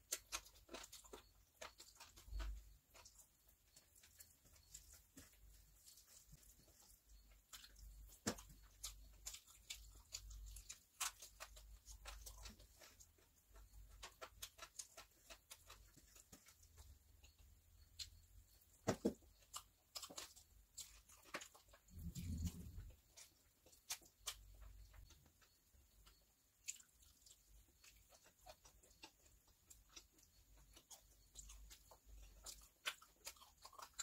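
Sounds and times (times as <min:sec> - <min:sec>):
fingers mixing rice on metal plate: 0:00.0 - 0:34.0
mouth chewing: 0:00.0 - 0:34.0.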